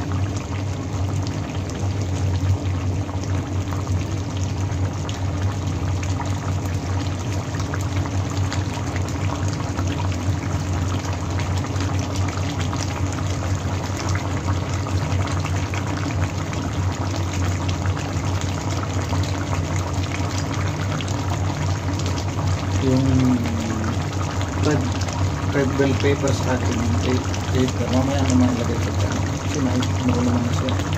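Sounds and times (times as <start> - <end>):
stew bubbling in a pan: 0.0 - 30.9.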